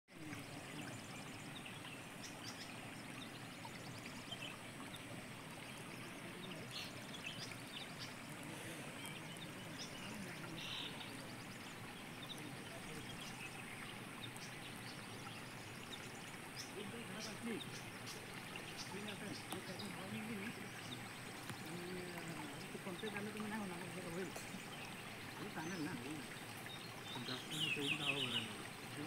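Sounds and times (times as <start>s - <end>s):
rushing stream noise: 0.1s - 29.0s.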